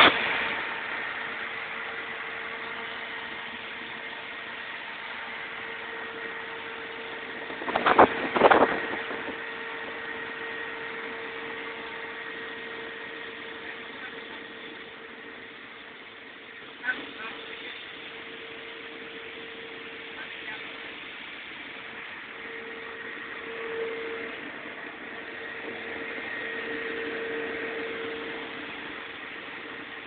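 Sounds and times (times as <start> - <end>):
air compressor humming: 0.0 - 30.0.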